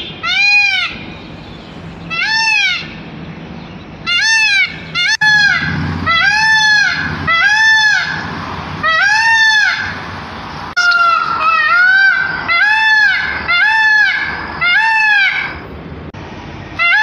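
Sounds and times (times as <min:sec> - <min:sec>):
peafowl calling: 0:00.0 - 0:03.1, 0:04.0 - 0:15.7, 0:16.8 - 0:17.0.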